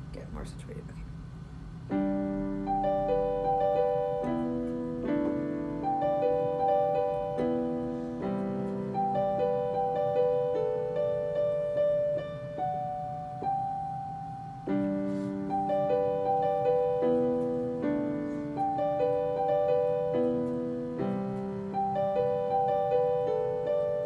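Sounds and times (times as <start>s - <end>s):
piano arpeggiated accompaniment: 1.8s - 24.0s.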